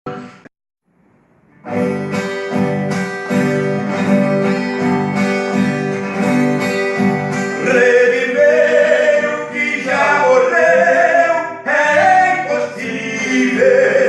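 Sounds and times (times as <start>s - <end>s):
acoustic guitar strumming: 1.4s - 14.0s.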